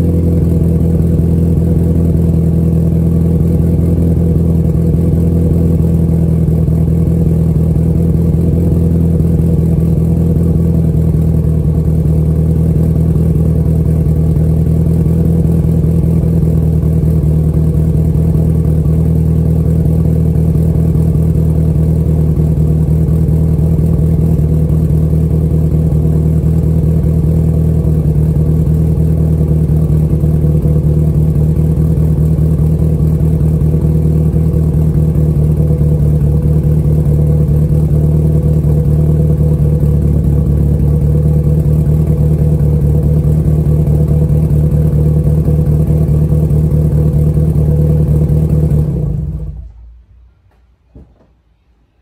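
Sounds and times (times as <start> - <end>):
car engine idling: 0.0 - 51.5.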